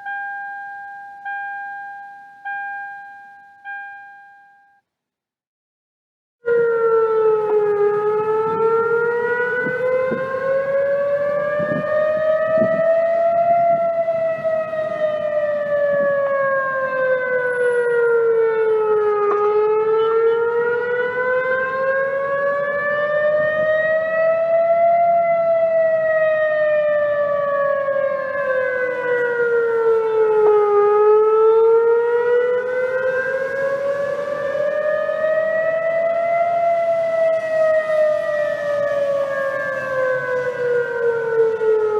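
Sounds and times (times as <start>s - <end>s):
siren wailing: 0.0s - 4.6s, 6.4s - 41.9s.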